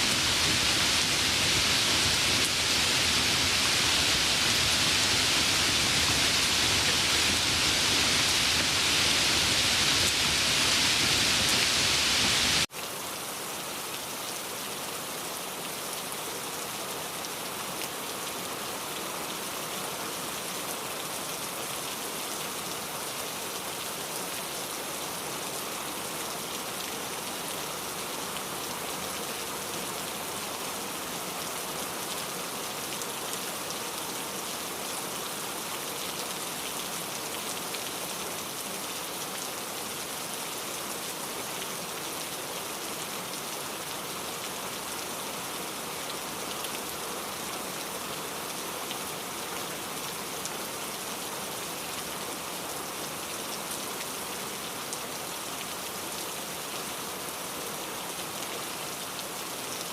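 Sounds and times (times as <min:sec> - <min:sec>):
steady rainfall pattering: 0:00.0 - 0:59.9.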